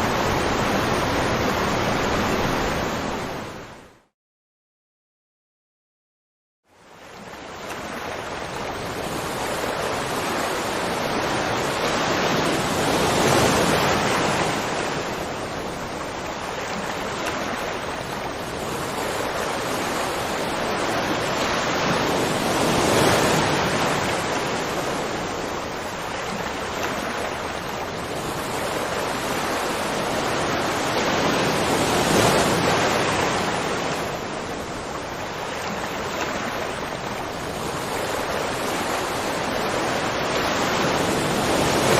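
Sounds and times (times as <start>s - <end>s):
rushing water roar: 0.0s - 4.1s, 6.7s - 41.9s.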